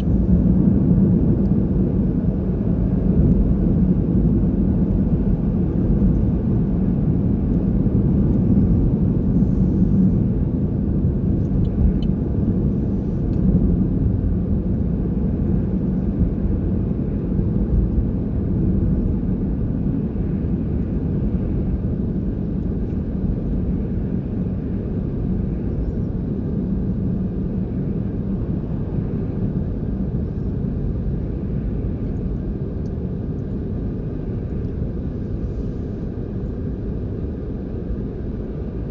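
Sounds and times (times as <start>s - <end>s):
low rumble of road vehicles: 0.0s - 38.9s.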